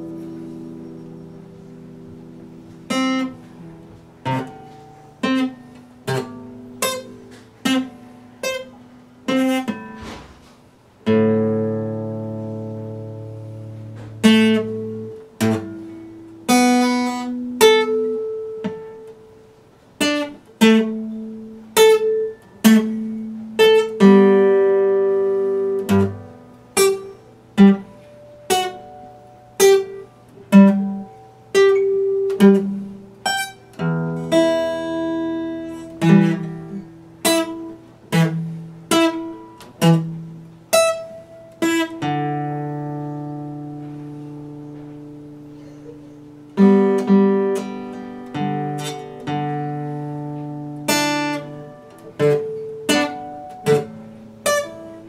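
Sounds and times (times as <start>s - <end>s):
acoustic guitar chords: 0.0s - 55.0s.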